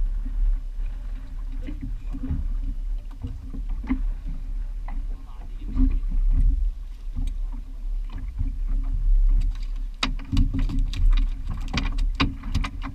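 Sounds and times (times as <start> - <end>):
water against boat hull: 0.0 - 12.9
wind on microphone: 0.0 - 12.9.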